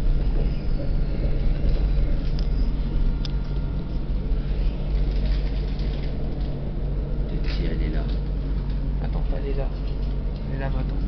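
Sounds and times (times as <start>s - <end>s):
tram rumbling along track: 0.0s - 11.0s.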